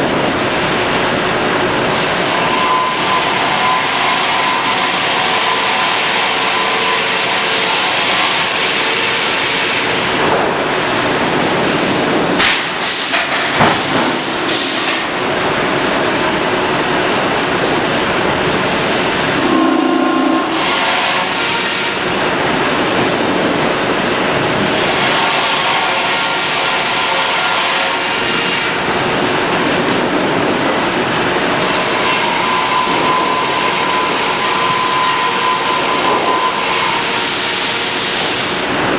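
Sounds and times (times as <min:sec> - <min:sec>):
sawmill machinery rushing: 0:00.0 - 0:38.9.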